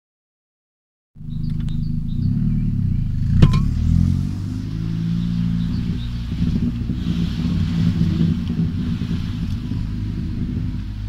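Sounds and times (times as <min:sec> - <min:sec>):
car engine running: 0:01.2 - 0:11.0.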